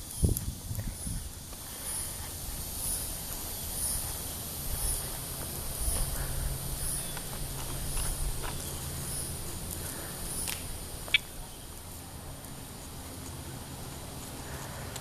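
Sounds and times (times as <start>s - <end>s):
insect chirping: 0.0s - 14.9s
steady hum: 0.0s - 15.0s.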